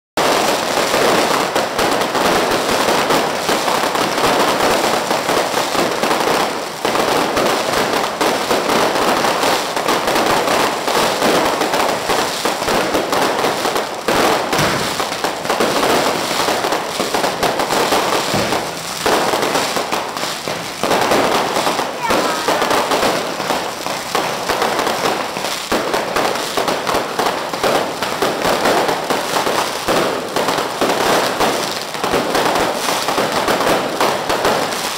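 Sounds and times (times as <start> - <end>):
firecrackers crackling and banging: 0.2 - 34.9.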